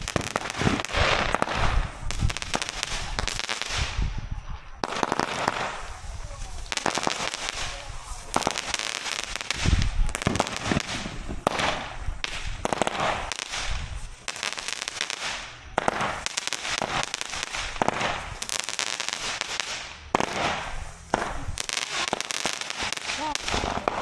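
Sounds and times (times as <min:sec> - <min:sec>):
firework crackling: 0:00.0 - 0:24.0
firework pops and bangs: 0:00.0 - 0:24.0.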